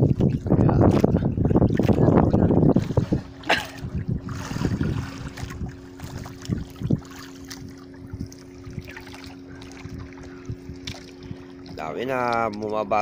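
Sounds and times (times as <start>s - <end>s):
steady low hum: 0.0s - 13.0s
water sloshing around boat: 0.0s - 13.0s.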